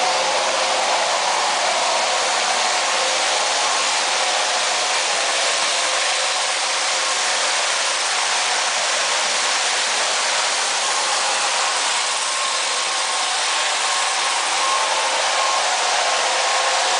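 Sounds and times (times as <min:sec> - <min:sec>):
small electric motor running: 0:00.0 - 0:16.9.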